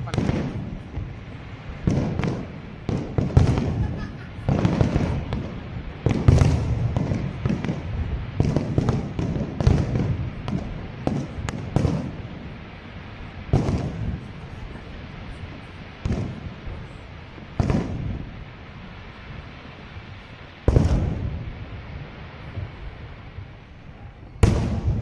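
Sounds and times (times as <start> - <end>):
fireworks booming and cracking: 0.0 - 25.0.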